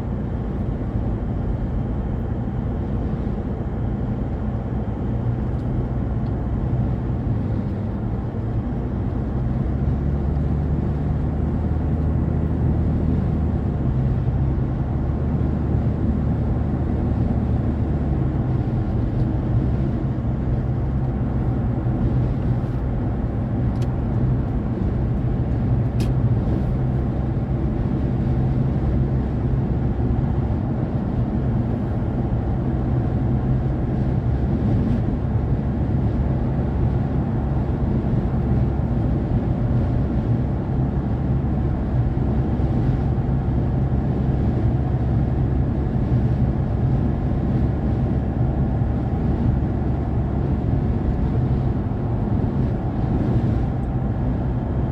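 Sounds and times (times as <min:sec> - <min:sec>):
car road noise drone: 0:00.0 - 0:54.9.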